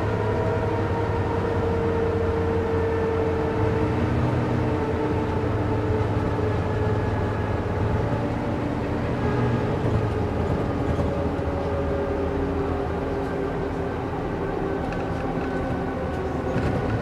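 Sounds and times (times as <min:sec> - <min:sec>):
bus diesel engine idling: 0:00.0 - 0:17.0.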